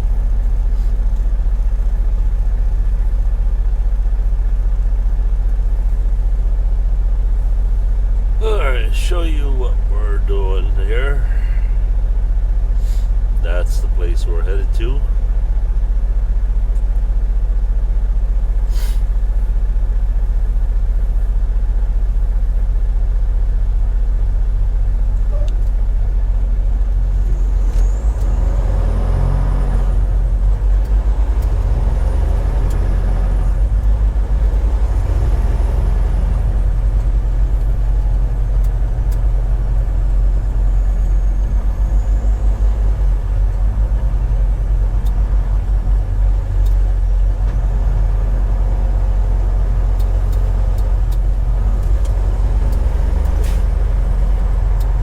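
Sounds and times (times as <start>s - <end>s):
road noise: 0.0s - 23.0s, 24.5s - 55.0s
truck engine droning: 0.0s - 55.0s.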